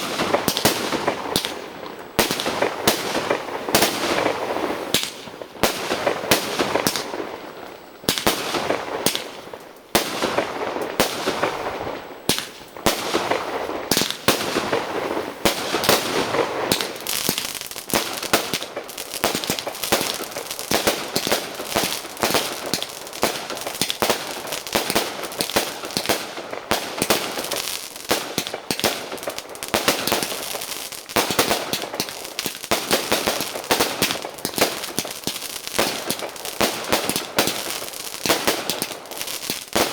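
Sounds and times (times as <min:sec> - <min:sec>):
fireworks bursts and crackling: 0:00.0 - 0:39.9.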